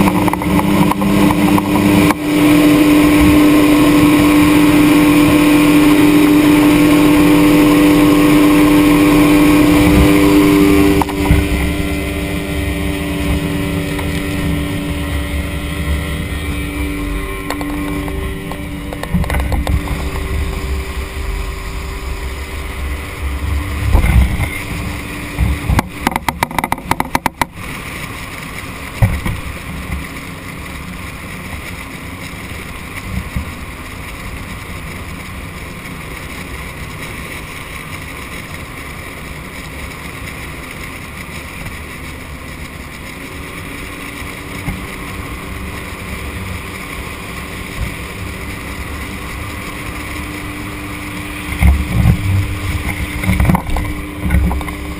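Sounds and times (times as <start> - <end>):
wind on microphone: 0.0 - 35.9, 40.4 - 54.9
outboard motor running: 0.0 - 54.9
water rushing along hull: 0.0 - 54.9.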